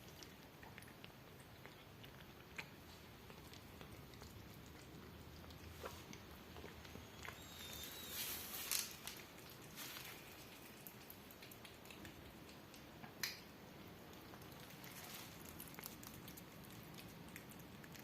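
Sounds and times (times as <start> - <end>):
cat chewing food: 0.0 - 8.1, 8.7 - 18.0.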